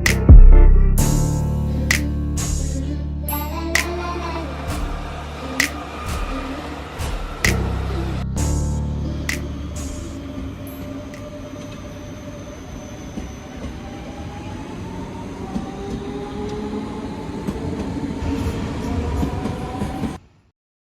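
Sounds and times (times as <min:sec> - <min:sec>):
electric train rumbling on track: 0:01.0 - 0:20.2.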